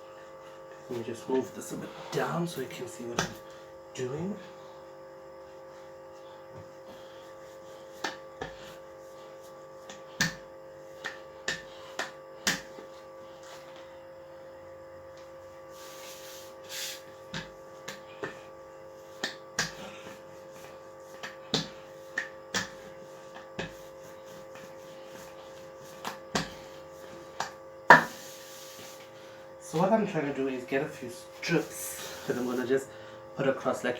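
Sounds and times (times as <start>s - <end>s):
steady electrical hum: 0.0s - 33.9s.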